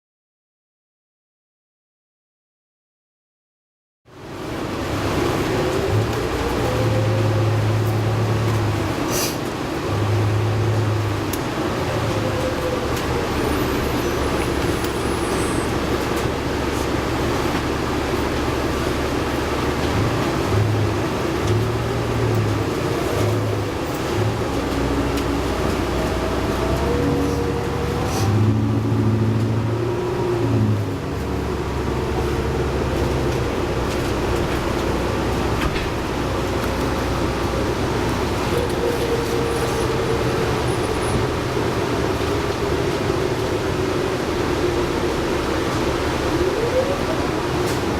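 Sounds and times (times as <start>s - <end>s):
bus engine running: 4.1s - 47.9s
road rolling noise: 4.1s - 47.9s.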